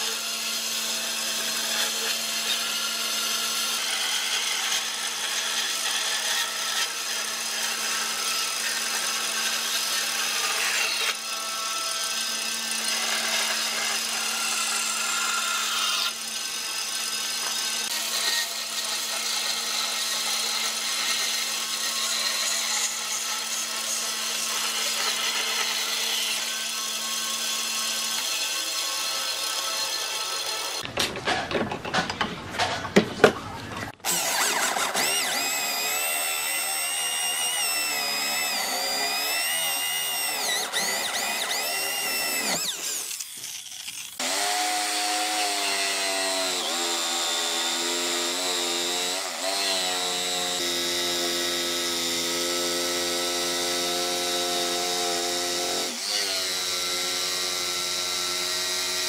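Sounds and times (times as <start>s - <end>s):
bandsaw cutting wood: 0.0s - 33.0s, 33.8s - 59.0s.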